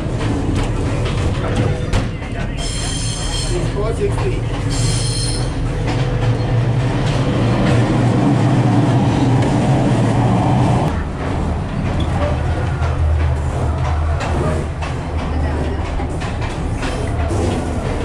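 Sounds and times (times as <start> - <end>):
low train hum: 0.0 - 18.0
train wheels rumbling on rail: 0.0 - 18.0.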